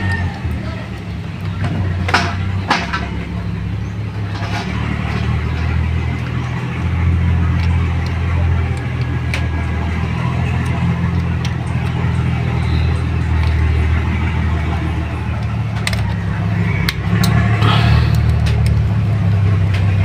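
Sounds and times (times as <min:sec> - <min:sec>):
engine idling: 0:00.0 - 0:20.0
handling clicks and knocks: 0:01.3 - 0:03.3, 0:04.2 - 0:20.0.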